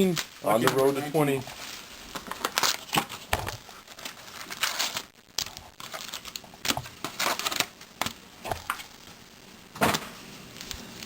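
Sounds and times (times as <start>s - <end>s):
plastic packaging crinkling and tearing: 0.0s - 9.1s.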